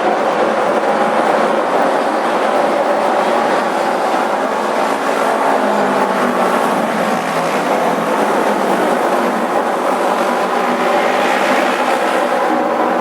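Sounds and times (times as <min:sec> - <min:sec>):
racing motorcycle engines droning: 0:00.0 - 0:13.0.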